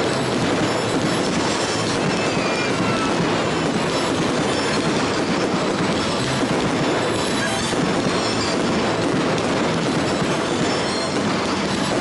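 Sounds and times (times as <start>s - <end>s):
fireworks bursts and crackles: 0.0s - 12.0s.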